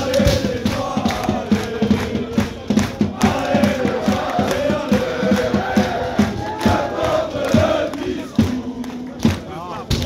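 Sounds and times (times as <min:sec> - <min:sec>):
crowd chanting in unison: 0:00.0 - 0:09.9
steady low beat: 0:00.0 - 0:10.0.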